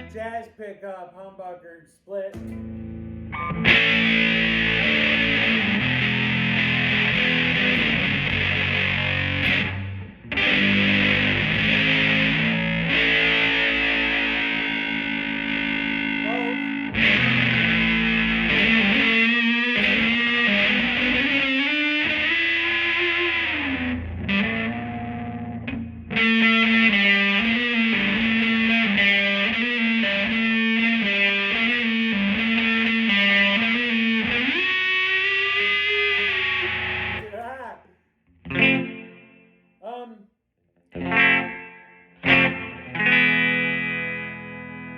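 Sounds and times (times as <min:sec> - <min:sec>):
driven electric guitar: 0:00.0 - 0:00.4, 0:02.4 - 0:37.7, 0:38.4 - 0:40.0, 0:40.9 - 0:44.9.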